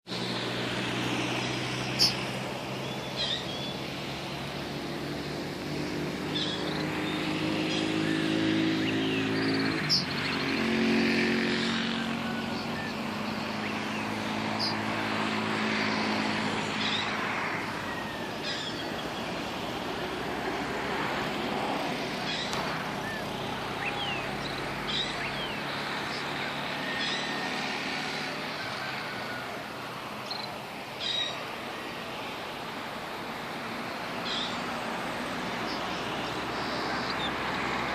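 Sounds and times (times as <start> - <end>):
traffic noise: 0.0 - 37.9
birds chirping: 0.1 - 37.9
vehicle engine running nearby: 0.1 - 37.9.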